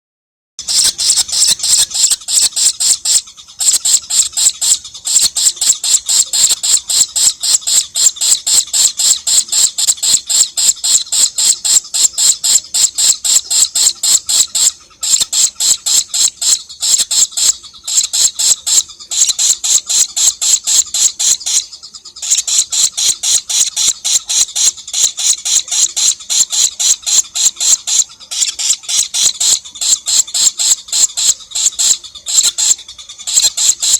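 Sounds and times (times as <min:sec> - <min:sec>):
lovebird chattering: 0:00.6 - 0:33.9.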